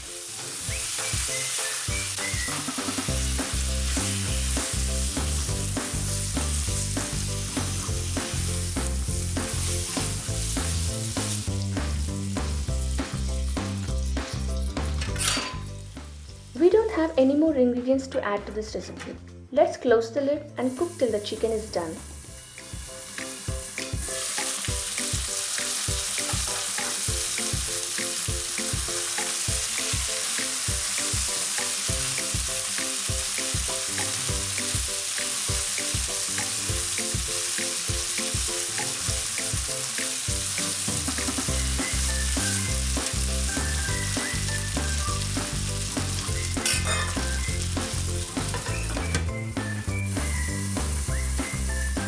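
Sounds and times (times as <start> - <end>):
chicken frying in oil: 0.0 - 17.1, 20.6 - 52.0
background music with steady beat: 0.0 - 52.0.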